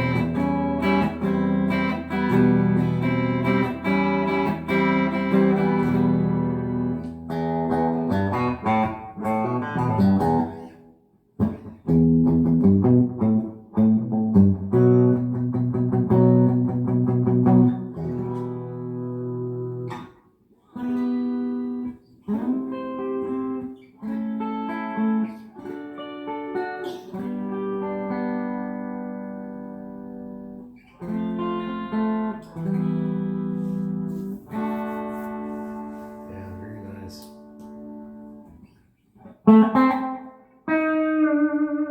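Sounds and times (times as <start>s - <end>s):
electric twelve-string guitar: 0.0s - 41.9s.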